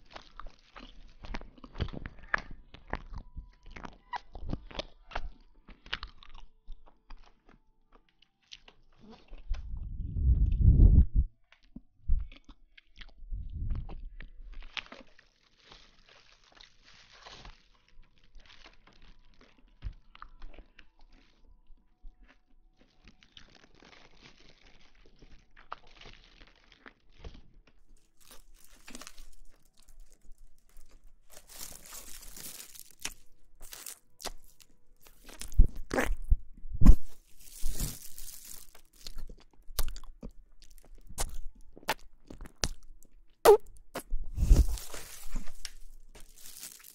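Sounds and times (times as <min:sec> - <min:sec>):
crunching and rustling: 0:00.0 - 0:09.8, 0:13.8 - 0:46.9.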